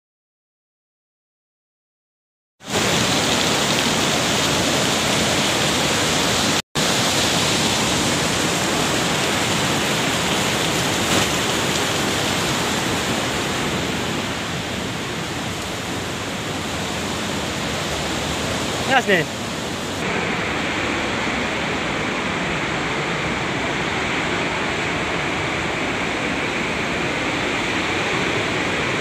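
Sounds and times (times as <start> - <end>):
fast-flowing water rushing: 2.6 - 29.0.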